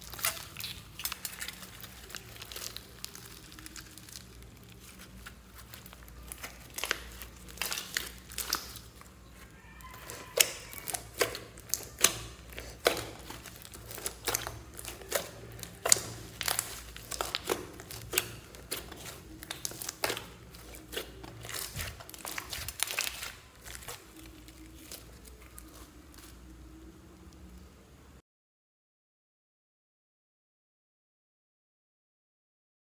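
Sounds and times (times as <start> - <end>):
slime kneaded with sticky pops: 0.0 - 27.6.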